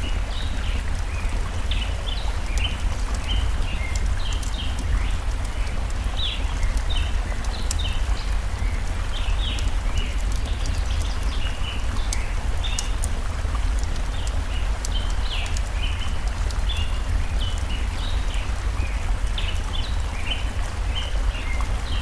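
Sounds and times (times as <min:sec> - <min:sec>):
wood fire crackling: 0:00.0 - 0:20.9
forest stream flowing: 0:00.0 - 0:22.0.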